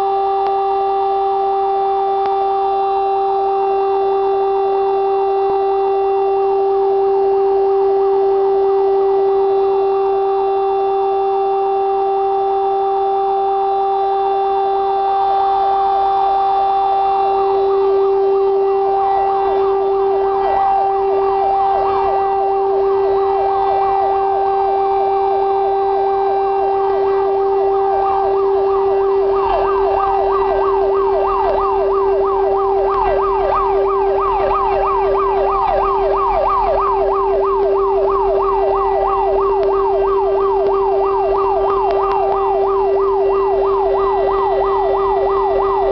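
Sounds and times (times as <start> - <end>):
fire engine low rumble: 0.0 - 45.9
fire engine siren sweeping: 0.0 - 45.9
steady alarm siren tone: 0.0 - 45.9.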